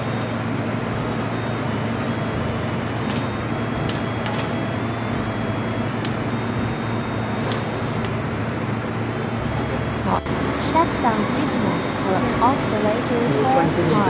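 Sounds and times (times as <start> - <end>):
welding machine hum: 0.0 - 14.0.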